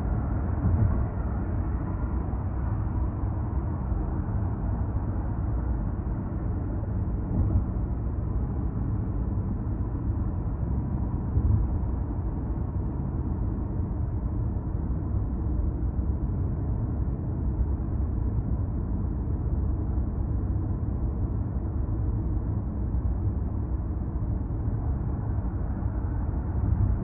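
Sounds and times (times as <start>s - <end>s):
road and tyre rumble: 0.0s - 27.0s.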